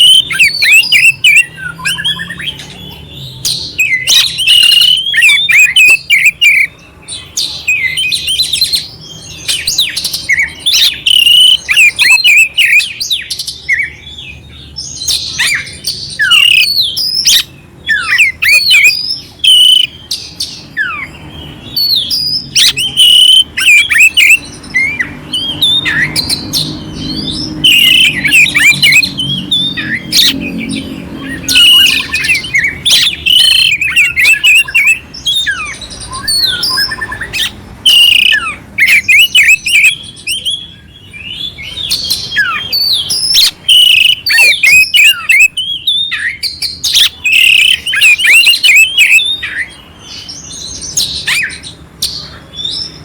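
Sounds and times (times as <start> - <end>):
songbird whistling and scratchy notes: 0.0 - 6.8, 7.4 - 14.1, 14.8 - 53.0.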